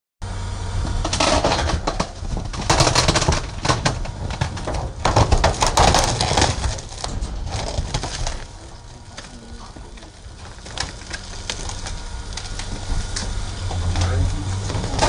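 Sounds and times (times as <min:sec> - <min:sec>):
low machine hum: 0:00.2 - 0:15.0
compactor crushing mattress creaking: 0:00.8 - 0:15.0.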